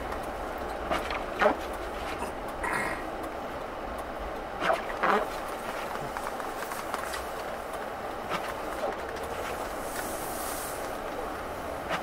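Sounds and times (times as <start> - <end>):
tyres rumbling on packed snow: 0.0 - 12.0.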